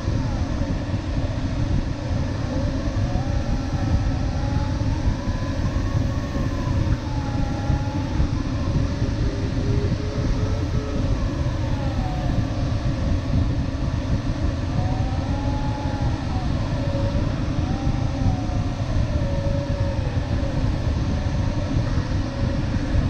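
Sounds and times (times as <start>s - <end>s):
airflow rushing over glider canopy: 0.0s - 23.0s.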